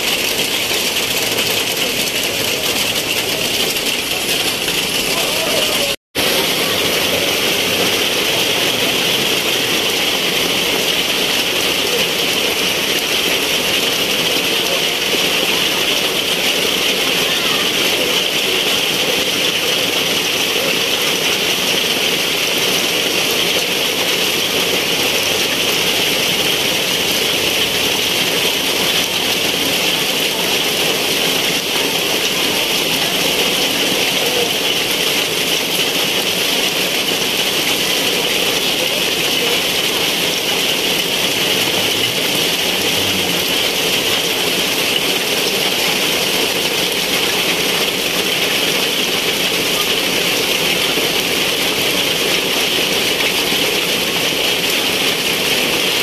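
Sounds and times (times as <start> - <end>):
heavy rain on wet paving: 0.0 - 56.0.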